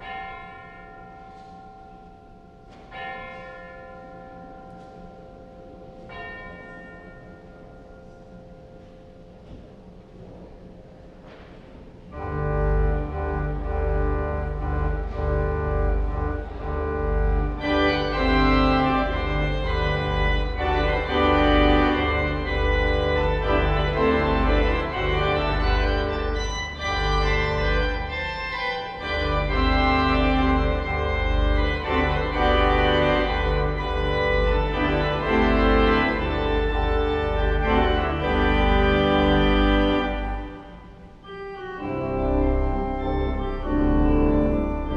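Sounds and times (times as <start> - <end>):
church organ chords: 0.0 - 44.9.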